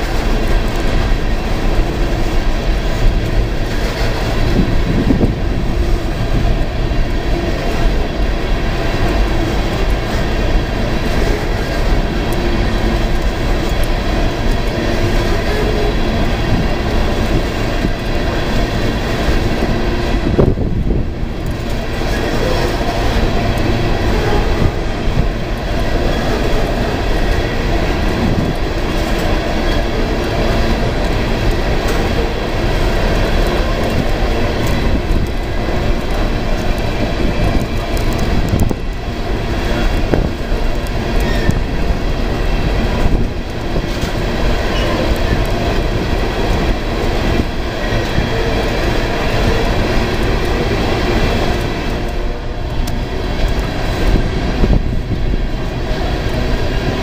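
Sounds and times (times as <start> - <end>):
steel train wheels on rails: 0.0 - 57.0
train knocks: 0.0 - 57.0.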